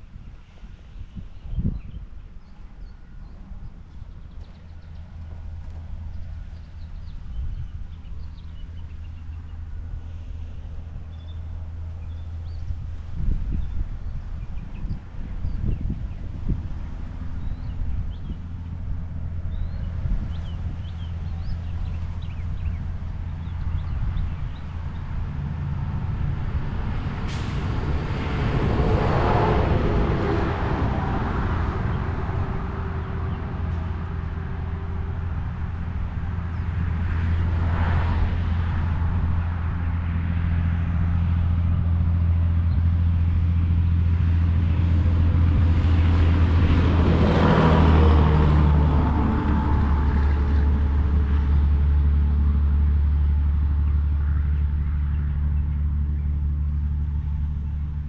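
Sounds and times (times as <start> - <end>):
traffic engine drone: 0.0 - 58.0
vehicles passing by: 0.0 - 58.0.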